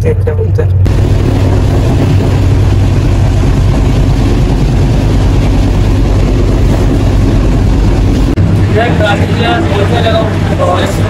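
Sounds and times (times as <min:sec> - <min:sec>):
rushing air: 0:00.9 - 0:11.0
train wheels rumbling on track: 0:00.9 - 0:11.0.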